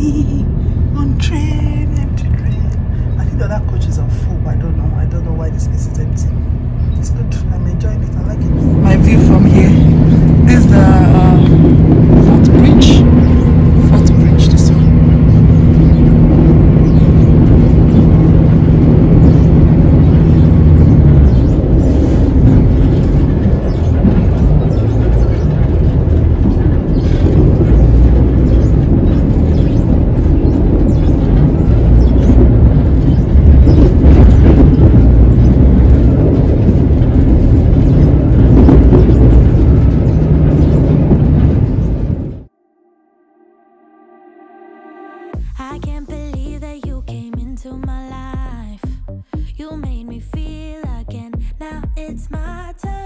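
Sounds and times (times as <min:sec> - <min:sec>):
train wheels rumbling on rails: 0:00.0 - 0:42.5
steady hum: 0:00.0 - 0:53.0.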